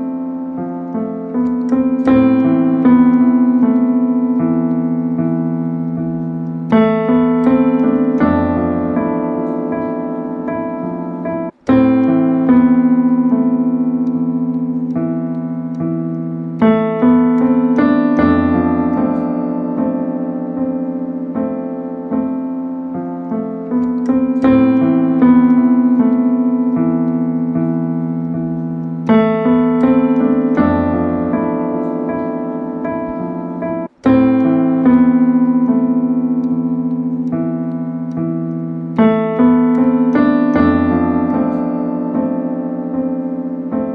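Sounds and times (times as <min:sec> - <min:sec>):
slow piano chords: 0:00.0 - 0:43.9.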